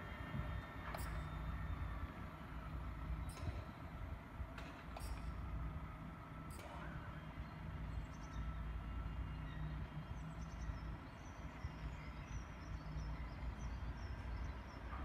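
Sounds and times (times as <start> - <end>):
distant electric train rumble: 0.0 - 15.0.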